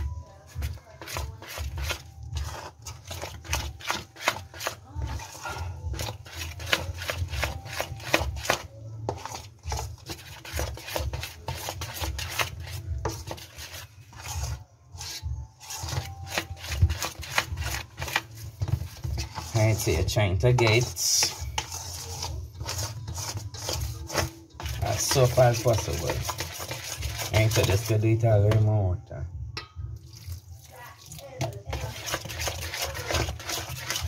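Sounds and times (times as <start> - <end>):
hand scraping dough in metal bowl: 0.0 - 29.0, 29.6 - 34.0.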